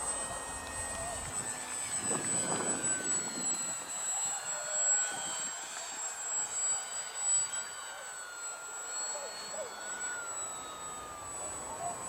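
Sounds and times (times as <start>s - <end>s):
model airplane motor whining: 0.0s - 12.0s.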